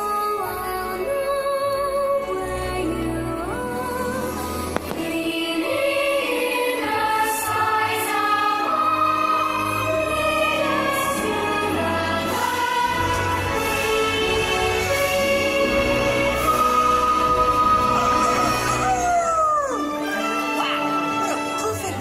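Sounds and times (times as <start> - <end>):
choir singing with orchestra: 0.0 - 21.3.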